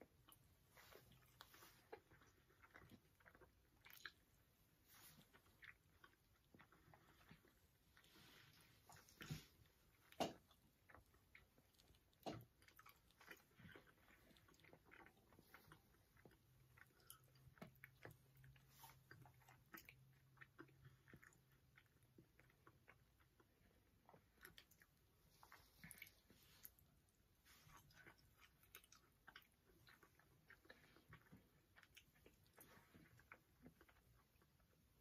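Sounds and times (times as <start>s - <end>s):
people chewing cookies: 0.0s - 35.0s.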